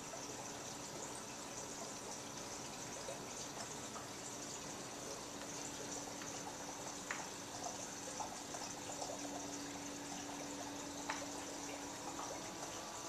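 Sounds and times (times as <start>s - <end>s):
faint steady hum: 0.0s - 13.0s
small water drips: 0.0s - 13.0s
water trickling and splashing: 0.0s - 13.0s.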